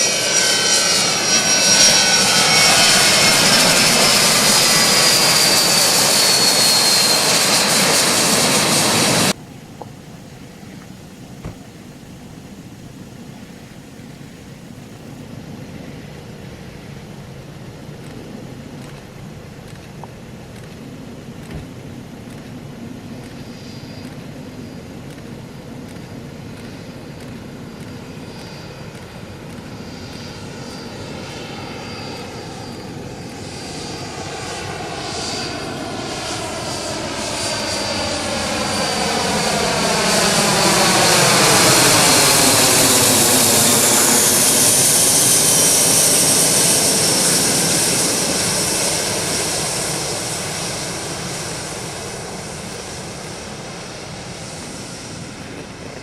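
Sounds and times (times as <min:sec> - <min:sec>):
high engine whine: 0:00.0 - 0:56.0
turboprop plane flying past: 0:00.0 - 0:56.0.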